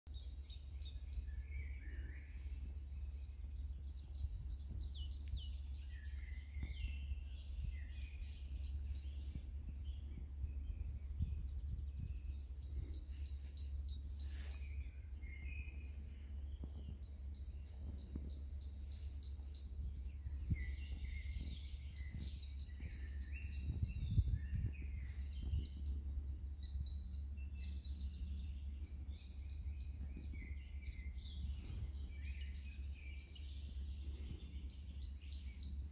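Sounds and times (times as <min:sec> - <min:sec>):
birds chirping: 0:00.1 - 0:35.9
low rumble: 0:00.1 - 0:35.9.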